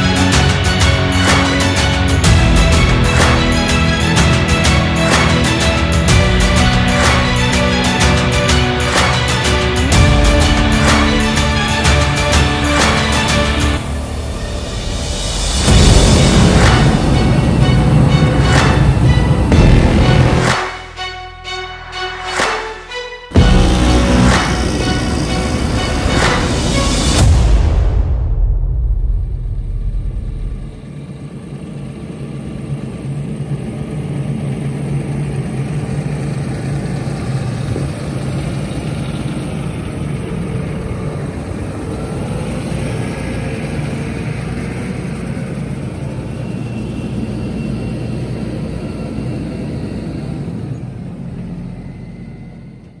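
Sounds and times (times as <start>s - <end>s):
engine humming steadily: 0.0s - 27.4s, 29.9s - 53.0s.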